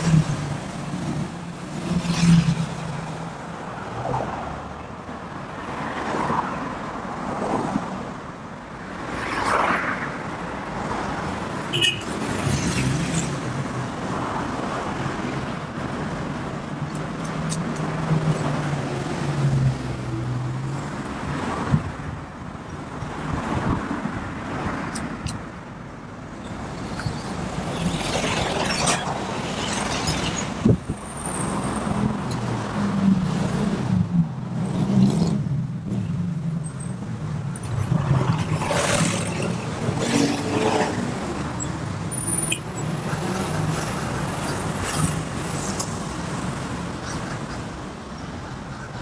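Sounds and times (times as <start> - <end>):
vehicles passing: 0.0 - 49.0.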